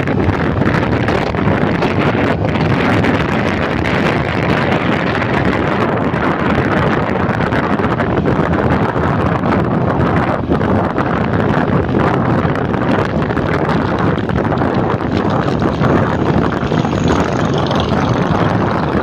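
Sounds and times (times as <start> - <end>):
road and engine rumble: 0.0 - 19.0
wind rushing over microphone: 0.0 - 19.0.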